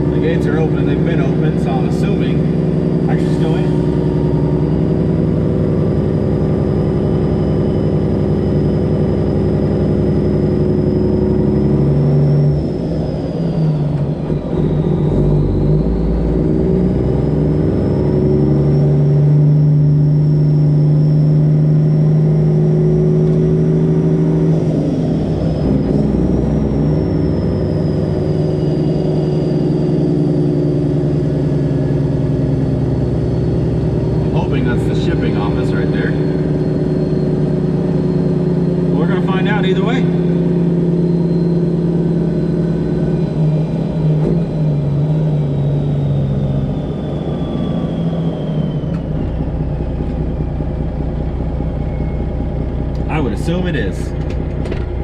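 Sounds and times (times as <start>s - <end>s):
high whine: 0.0s - 55.0s
truck diesel engine pulling: 0.0s - 55.0s.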